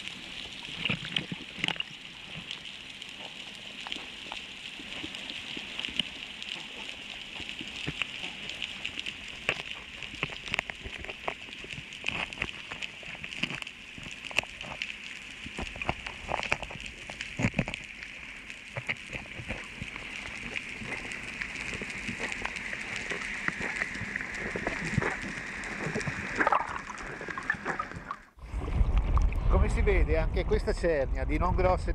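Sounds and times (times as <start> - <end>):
sharp clicks and crackles: 0.0 - 29.6.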